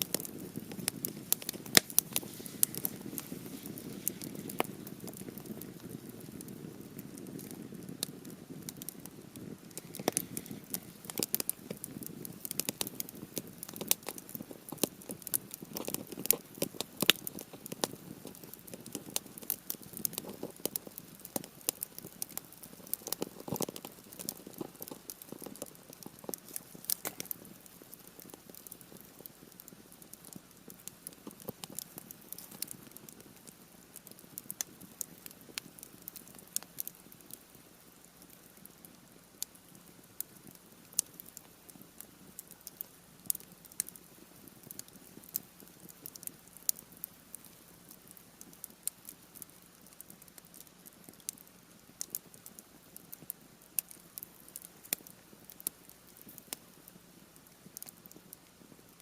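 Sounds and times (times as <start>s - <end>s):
campfire crackling and popping: 0.0s - 59.0s
soft low hiss: 0.0s - 59.0s.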